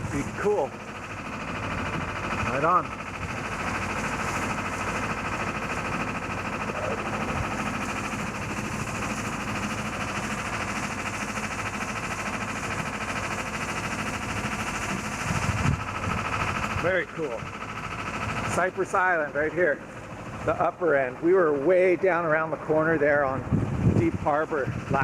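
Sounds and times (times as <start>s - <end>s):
boat diesel engine pulsing drone: 0.0s - 25.0s.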